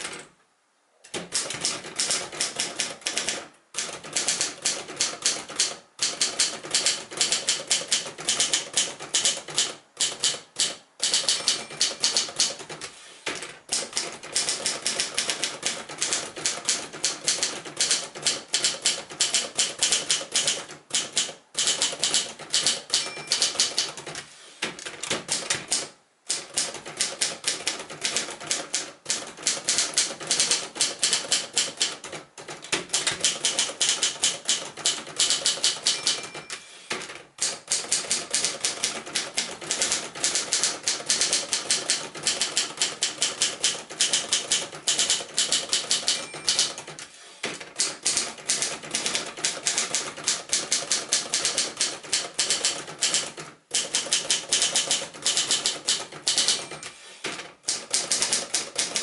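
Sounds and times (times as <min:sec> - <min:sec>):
manual typewriter key strikes: 0:01.1 - 0:59.0.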